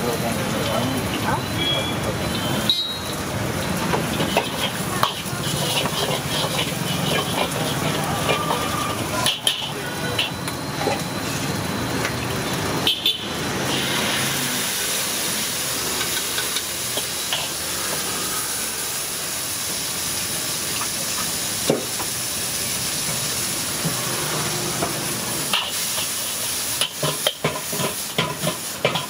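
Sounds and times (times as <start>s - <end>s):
food frying in a wok: 0.0s - 29.0s.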